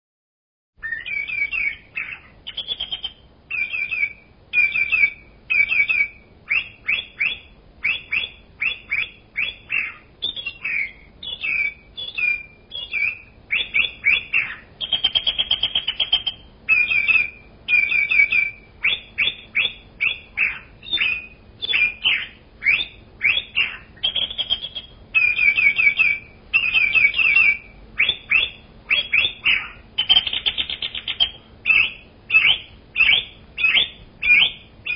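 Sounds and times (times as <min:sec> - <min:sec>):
bird chirping: 0:00.8 - 0:34.9.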